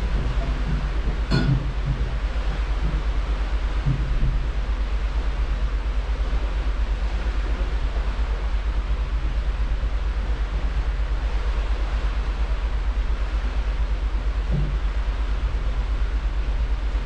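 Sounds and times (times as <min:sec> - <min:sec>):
hiss of churning wake: 0:00.0 - 0:17.0
ship engines deep rumble: 0:00.0 - 0:17.0.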